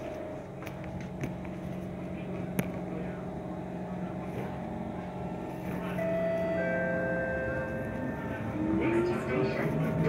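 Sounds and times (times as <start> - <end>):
metro train electric hum: 0.0 - 10.0.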